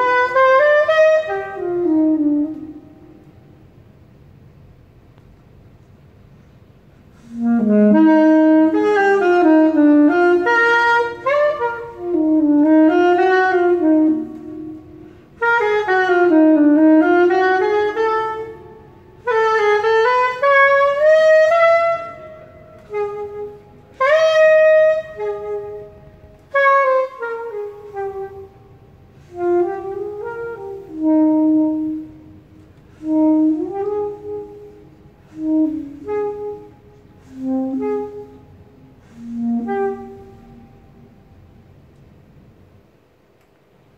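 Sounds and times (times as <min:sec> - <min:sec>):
saxophone jazz improvisation: 0:00.0 - 0:43.2.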